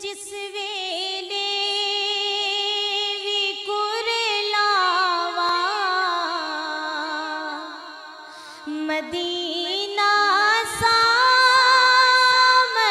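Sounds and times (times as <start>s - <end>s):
woman singing devotional song: 0.0s - 12.9s.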